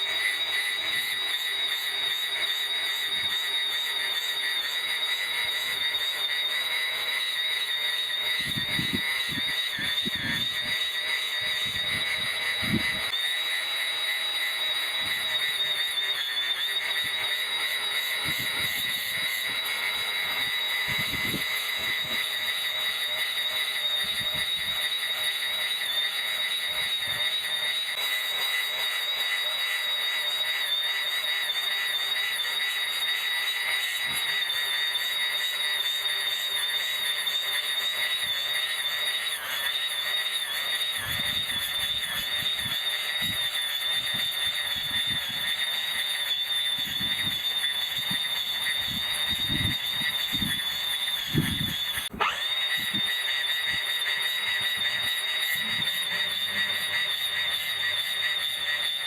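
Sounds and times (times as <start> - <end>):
electric brush cutter whining: 0.0 - 59.0.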